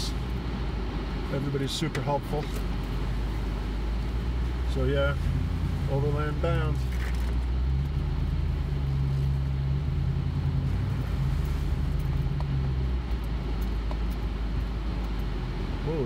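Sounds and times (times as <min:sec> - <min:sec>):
rough road noise: 0:00.0 - 0:16.0
truck engine drone: 0:00.0 - 0:16.0.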